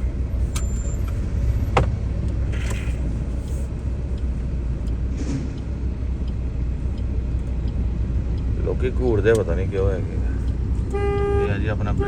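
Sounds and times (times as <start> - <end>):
low rumble of road vehicles: 0.0 - 12.0.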